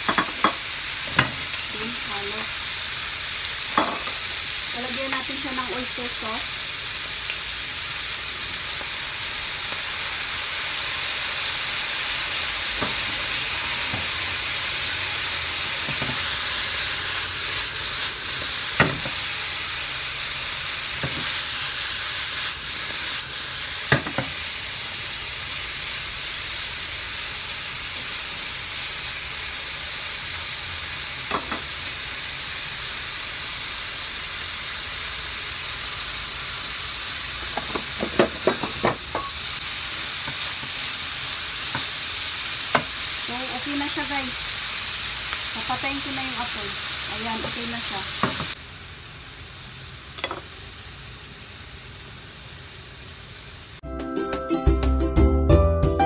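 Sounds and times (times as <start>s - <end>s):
food sizzling in a frying pan: 0.0s - 53.8s.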